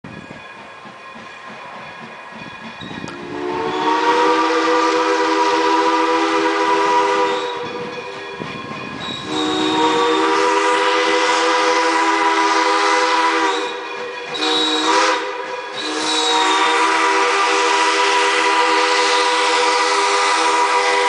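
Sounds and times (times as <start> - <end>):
steam locomotive whistle blast: 3.1 - 8.2, 9.0 - 21.0.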